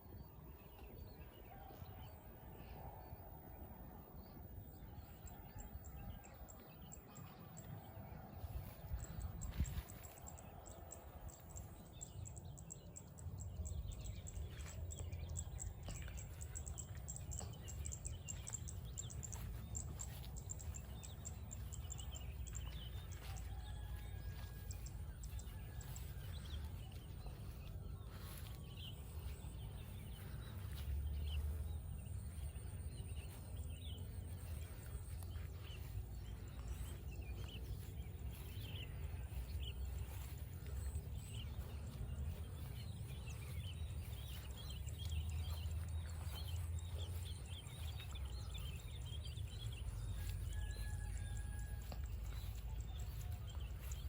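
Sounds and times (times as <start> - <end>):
steady low rumble: 0.0 - 54.0
bird chirps: 4.7 - 54.0.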